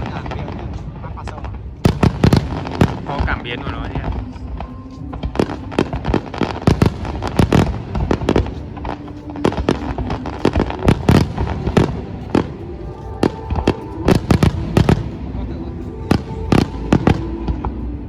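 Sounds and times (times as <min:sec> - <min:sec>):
fireworks bangs: 0:00.0 - 0:17.8.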